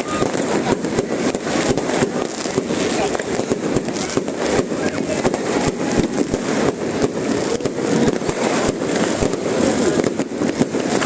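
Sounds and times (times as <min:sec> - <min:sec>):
fireworks bangs and cracks: 0:00.0 - 0:11.0
loud background din: 0:00.0 - 0:11.0.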